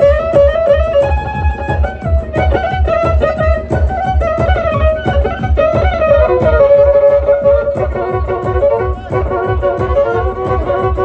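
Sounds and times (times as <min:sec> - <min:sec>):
fiddle playing fast dance tune: 0:00.0 - 0:11.0
steady drum beat: 0:00.0 - 0:11.0.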